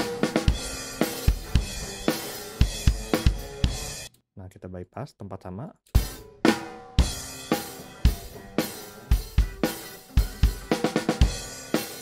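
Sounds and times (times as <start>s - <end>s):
kick and snare drums: 0.0s - 4.0s, 6.0s - 12.0s.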